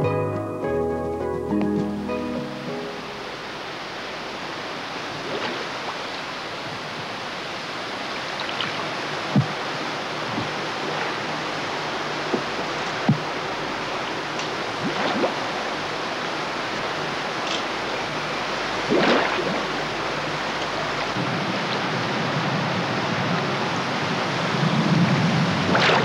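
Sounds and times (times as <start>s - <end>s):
water rushing: 2.2s - 26.0s.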